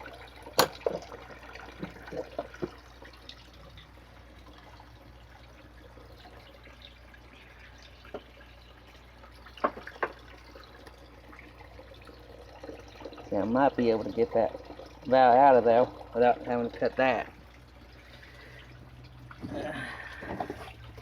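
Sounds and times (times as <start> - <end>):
water dripping: 0.0 - 21.0.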